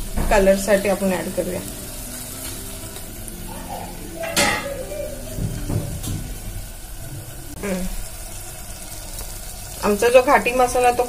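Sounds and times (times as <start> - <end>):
frying in oil: 0.0 - 11.0.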